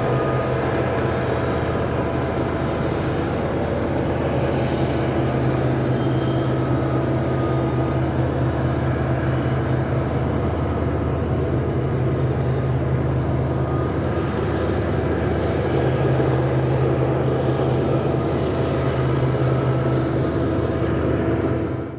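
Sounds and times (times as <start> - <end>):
thin whining tones: 0.0 - 21.6
diesel locomotive engine drone: 0.0 - 21.9.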